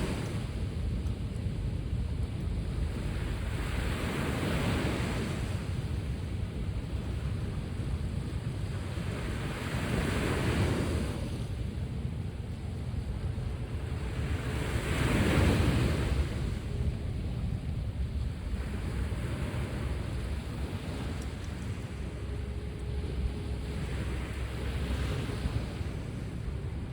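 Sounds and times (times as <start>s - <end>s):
sea waves breaking on shore: 0.0s - 26.9s.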